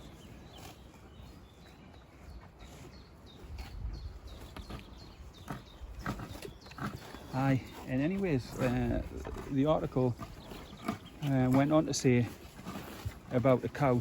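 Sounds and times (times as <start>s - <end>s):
bird chirps: 0.0s - 11.7s.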